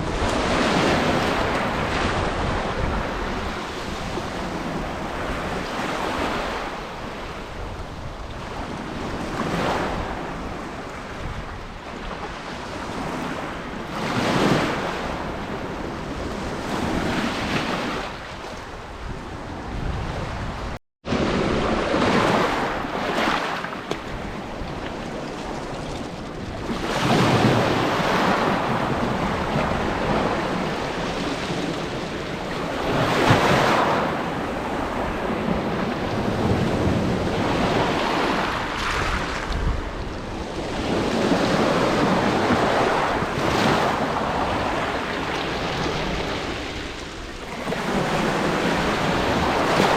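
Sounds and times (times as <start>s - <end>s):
waves breaking on shore: 0.0s - 49.9s
wind buffeting microphone: 0.0s - 49.9s.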